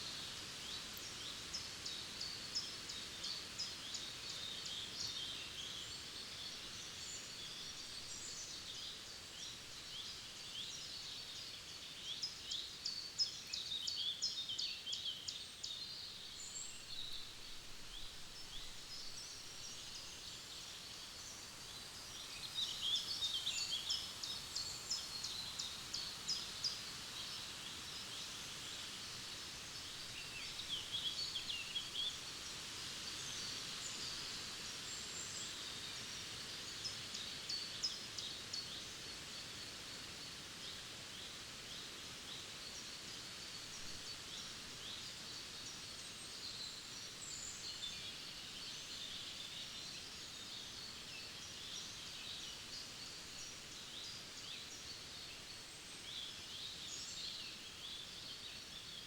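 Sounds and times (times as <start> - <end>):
songbirds singing and chirping: 0.0 - 59.0
steady soft hiss: 0.0 - 59.0.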